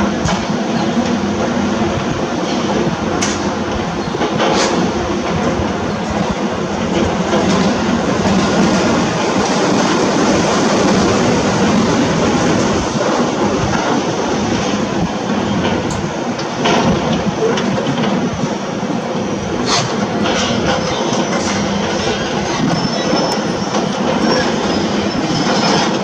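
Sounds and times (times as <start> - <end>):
construction machinery engine hum: 0.0 - 26.0.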